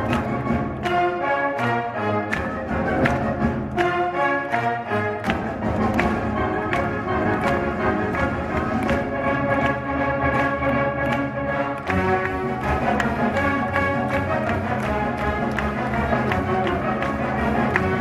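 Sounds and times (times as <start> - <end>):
orchestral music: 0.0 - 18.0.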